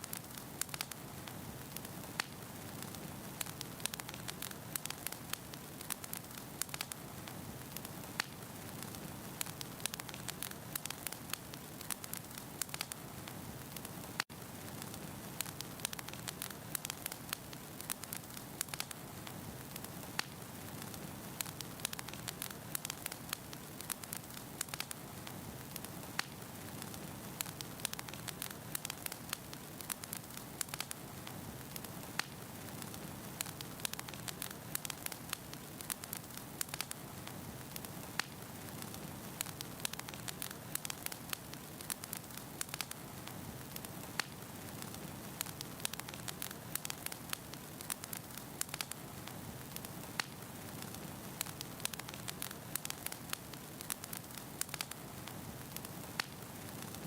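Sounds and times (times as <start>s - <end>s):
burning wood crackling: 0.0s - 57.0s.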